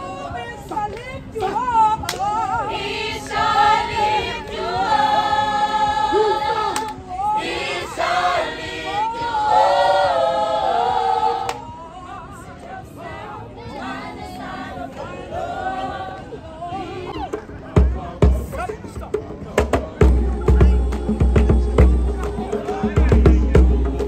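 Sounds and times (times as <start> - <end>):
young choir singing in harmony: 0.0 - 17.4, 19.8 - 24.0.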